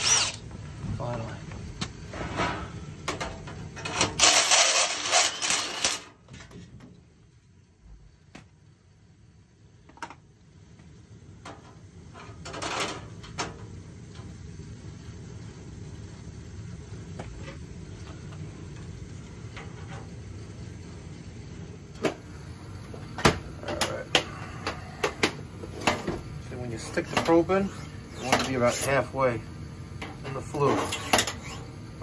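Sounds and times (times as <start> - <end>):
gas boiler rumbling: 0.0 - 32.0.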